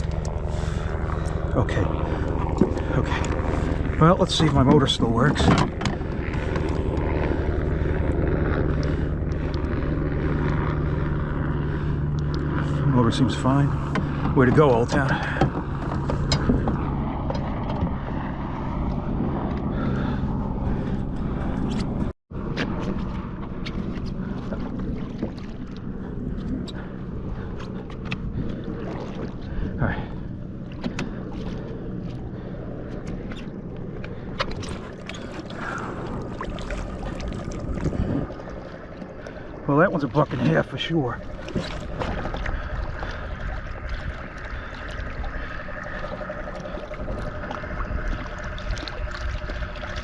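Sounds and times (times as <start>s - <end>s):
steady low hum: 0.0s - 50.0s
water noise: 0.0s - 50.0s.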